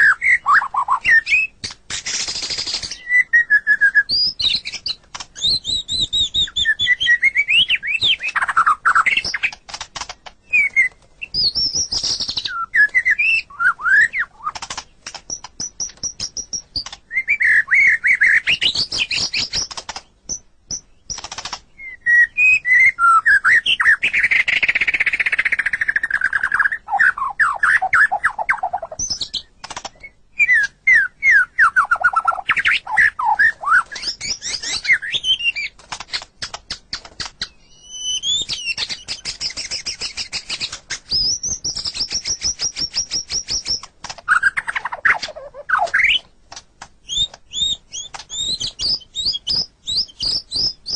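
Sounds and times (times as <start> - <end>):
bird singing whistled phrases: 0.0 - 9.6, 10.4 - 14.6, 15.3 - 19.7, 21.8 - 35.7, 37.4 - 46.3, 47.1 - 50.9.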